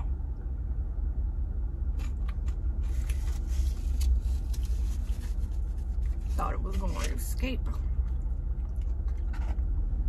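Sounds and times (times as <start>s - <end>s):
car rumble: 0.0s - 10.0s.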